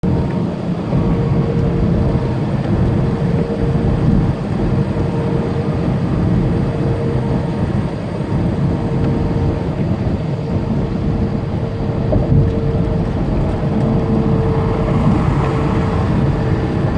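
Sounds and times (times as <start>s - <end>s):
truck engine low rumble: 0.0s - 16.9s.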